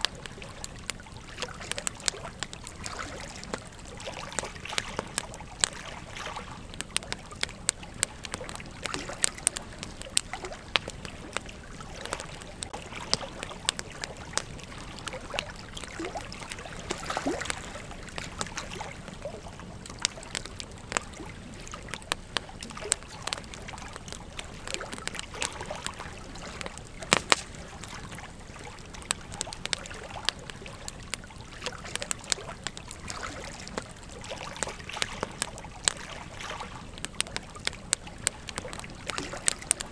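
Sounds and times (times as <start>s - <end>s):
campfire crackling and popping: 0.0s - 39.9s
hiss of burning wood: 0.1s - 39.9s.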